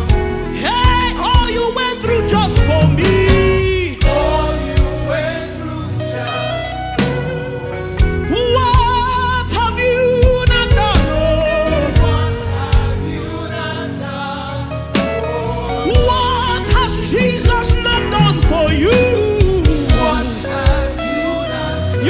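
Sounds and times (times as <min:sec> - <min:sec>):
band playing: 0:00.0 - 0:22.0
backing vocalists singing: 0:00.1 - 0:22.0.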